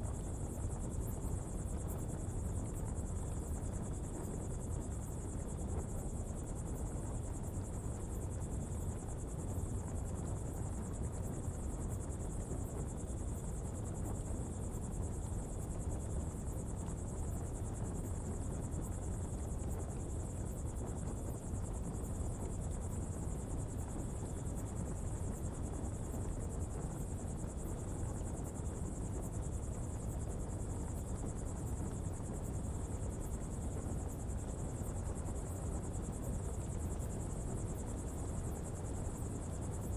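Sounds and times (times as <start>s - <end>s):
coal fire rumbling and hissing: 0.0s - 39.9s
insects chirring: 0.1s - 39.9s.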